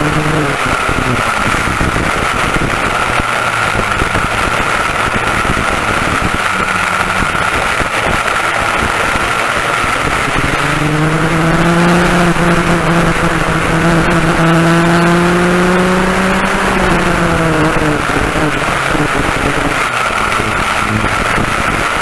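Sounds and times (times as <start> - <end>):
kart engines revving high: 0.0 - 22.0
lower engine note: 0.0 - 22.0
track noise: 0.0 - 22.0
wind rushing: 0.0 - 22.0.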